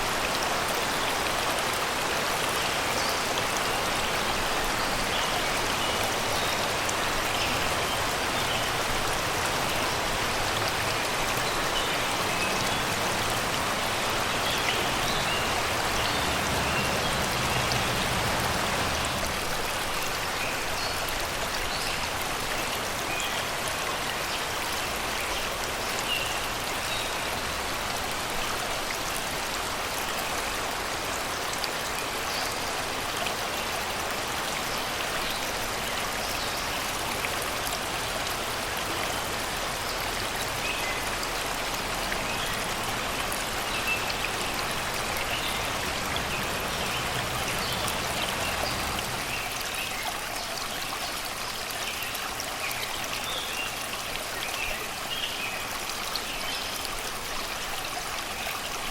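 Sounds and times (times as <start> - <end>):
river water rushing over rocks: 0.0 - 58.9.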